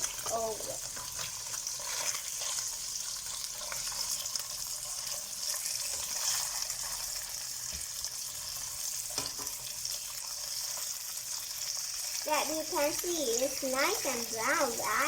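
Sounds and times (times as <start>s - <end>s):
tofu sizzling in oil: 0.0s - 15.0s.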